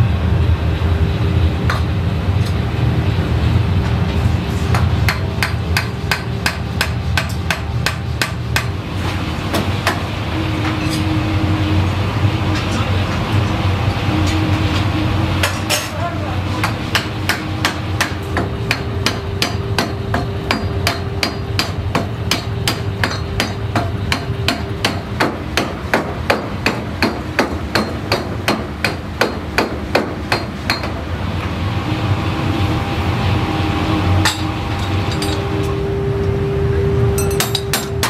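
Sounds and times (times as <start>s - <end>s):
machine running noise: 0.0s - 38.0s.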